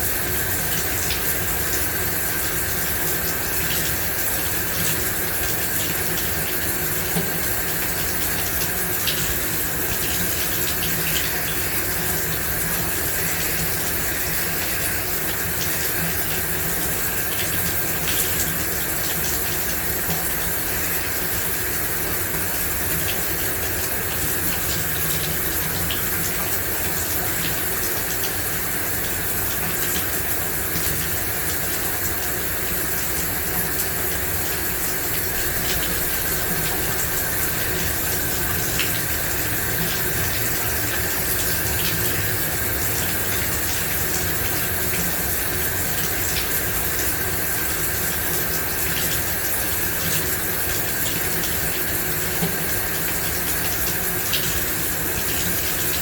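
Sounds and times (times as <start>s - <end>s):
shower water spraying: 0.0s - 56.0s
water drips: 0.0s - 56.0s.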